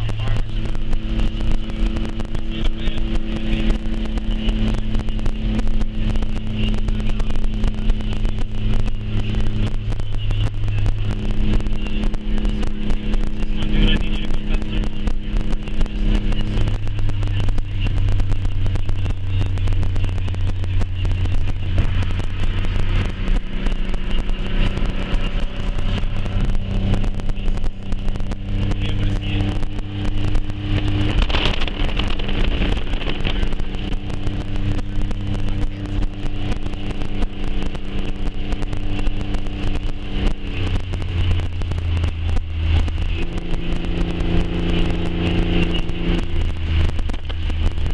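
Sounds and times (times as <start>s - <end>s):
car engine humming: 0.0s - 47.9s
wind and rain against car: 0.0s - 47.9s.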